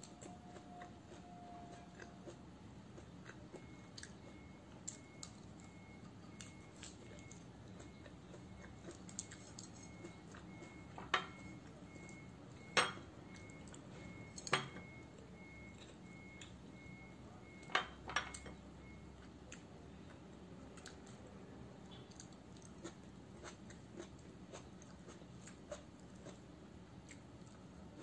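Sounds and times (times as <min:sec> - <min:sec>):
soft chewing: 0:00.0 - 0:28.0.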